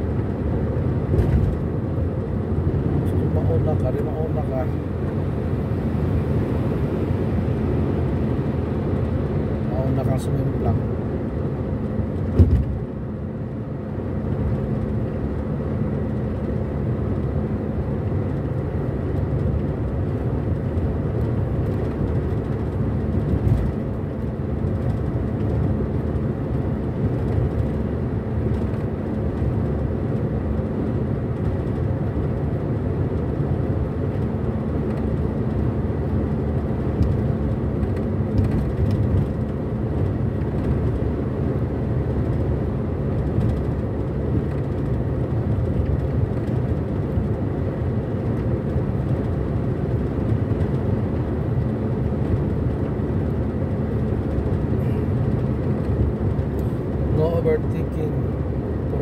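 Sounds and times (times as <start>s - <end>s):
car road noise and engine drone: 0.0s - 59.0s.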